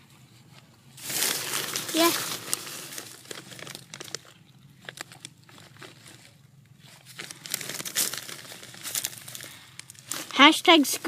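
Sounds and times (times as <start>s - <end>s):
rustling and crinkling: 0.0s - 11.0s.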